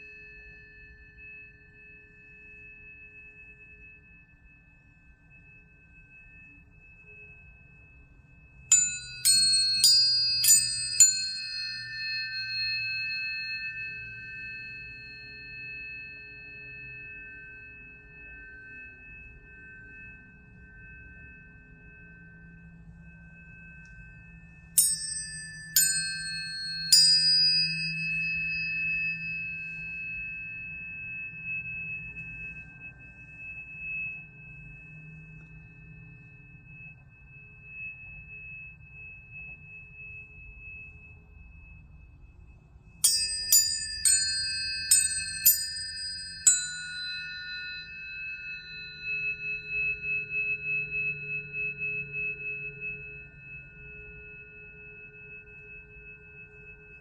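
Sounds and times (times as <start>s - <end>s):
steady high tone: 0.0s - 57.0s
tuning forks ringing: 0.0s - 57.0s.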